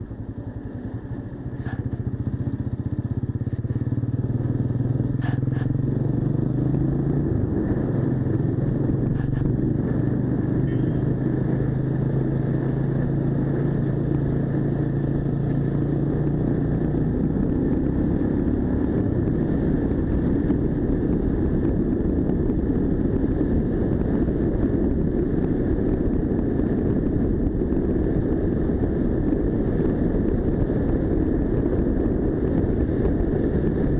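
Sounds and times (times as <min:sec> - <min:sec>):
motorcycle engine running: 0:00.0 - 0:33.9
wind and road noise: 0:00.0 - 0:33.9.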